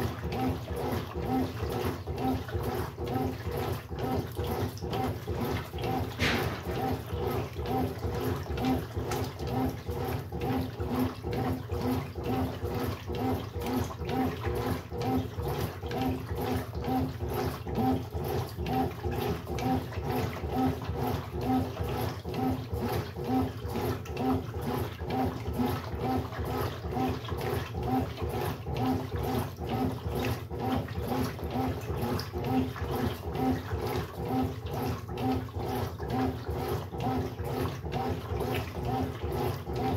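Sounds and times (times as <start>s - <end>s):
washing machine sloshing water: 0.0s - 39.9s.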